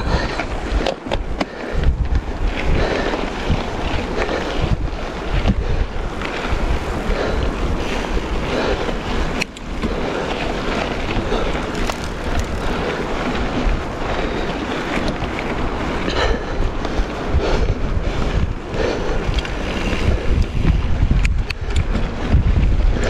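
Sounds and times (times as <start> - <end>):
bike rattles and knocks: 0.0 - 17.1, 18.4 - 23.0
bike tyres on dirt and stone: 0.0 - 23.0
wind rushing over microphone: 0.0 - 23.0.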